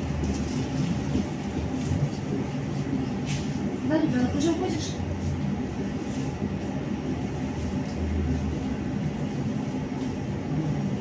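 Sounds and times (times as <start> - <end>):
tram drive humming: 0.0 - 11.0.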